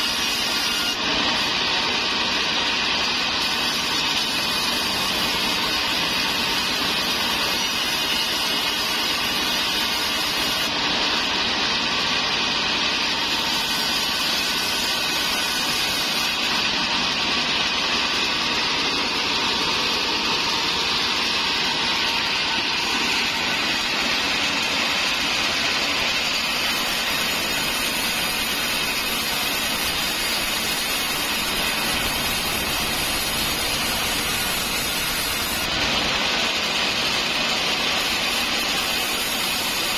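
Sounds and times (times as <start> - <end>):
bandsaw ripping planks: 0.0 - 39.9.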